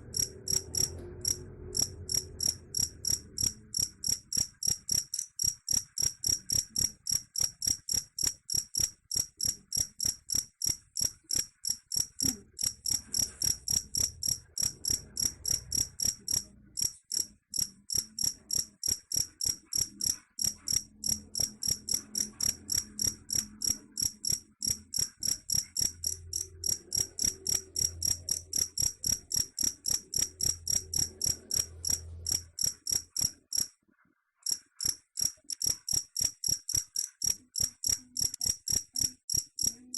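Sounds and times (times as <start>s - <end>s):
cricket chirping: 0.0s - 33.7s, 34.5s - 39.8s.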